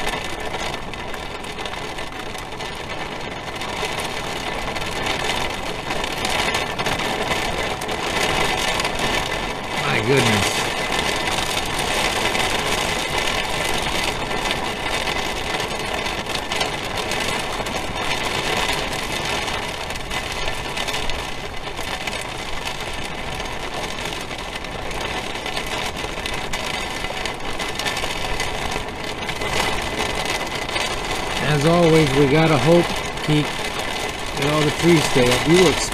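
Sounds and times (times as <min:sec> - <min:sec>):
heavy rain on a vehicle roof: 0:00.0 - 0:35.9
wind: 0:00.0 - 0:35.9.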